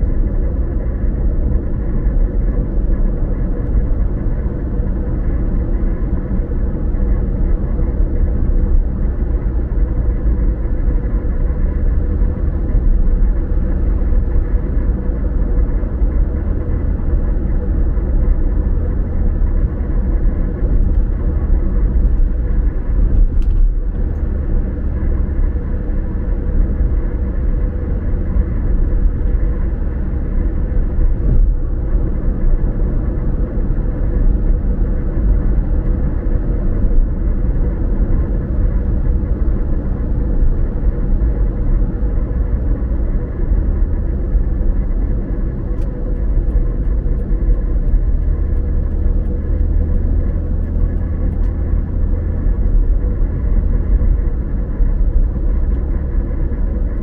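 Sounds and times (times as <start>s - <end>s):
car driving heard from inside: 0.0s - 57.0s.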